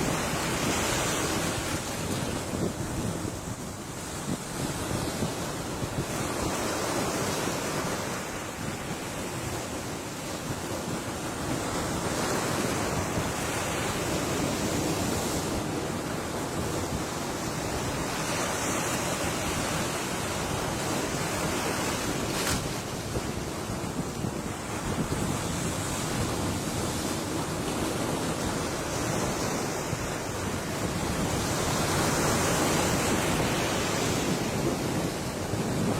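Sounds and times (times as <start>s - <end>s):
ocean waves breaking: 0.0s - 35.9s
wind rumbling on microphone: 0.0s - 35.9s.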